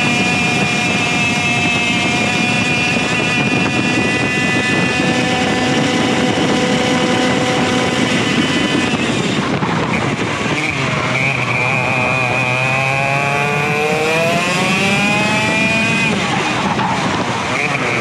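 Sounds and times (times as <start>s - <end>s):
two-stroke kart engine revving: 0.0s - 18.0s.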